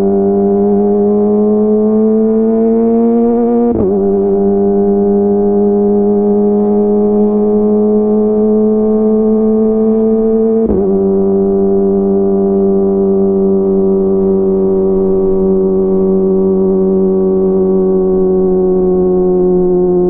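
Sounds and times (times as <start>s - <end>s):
motorcycle exhaust note: 0.0s - 20.0s.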